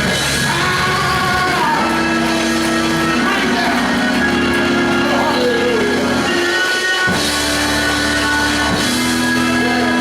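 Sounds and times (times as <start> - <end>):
band playing worship music: 0.0 - 10.0.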